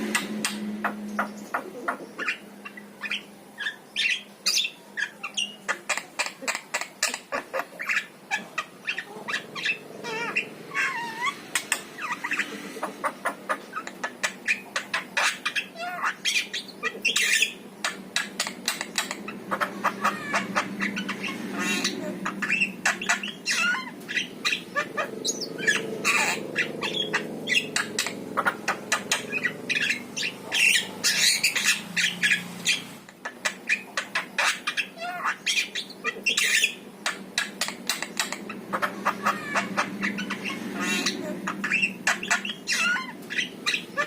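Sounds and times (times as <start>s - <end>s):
myna squawking and chirping: 0.0s - 44.0s.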